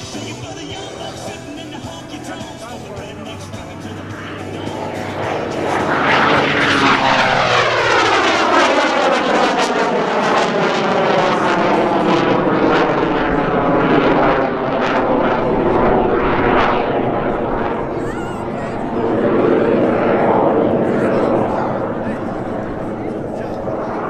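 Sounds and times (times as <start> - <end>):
biplane flying past: 0.0 - 24.0.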